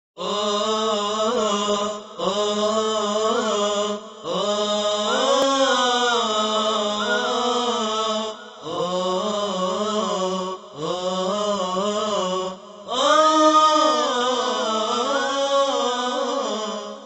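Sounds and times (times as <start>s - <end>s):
a cappella chanting voices: 0.2s - 17.0s.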